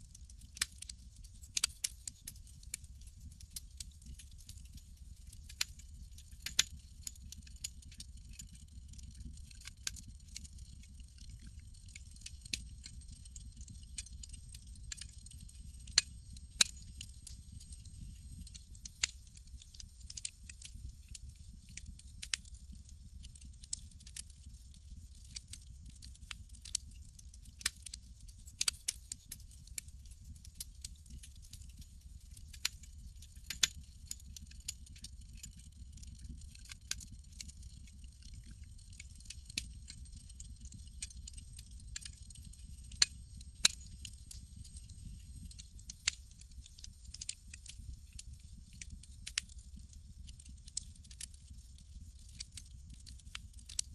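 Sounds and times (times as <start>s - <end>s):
campfire crackling and popping: 0.3s - 53.8s
low fire rumble: 0.3s - 53.8s.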